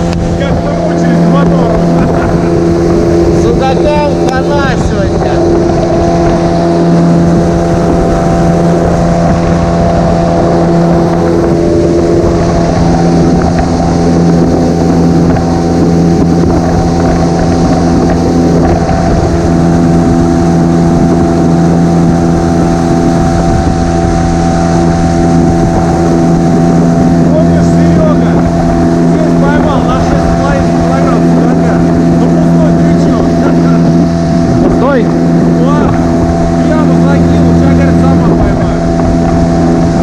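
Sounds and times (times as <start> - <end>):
outboard motor running: 0.0 - 40.0
wind noise on microphone: 0.0 - 40.0.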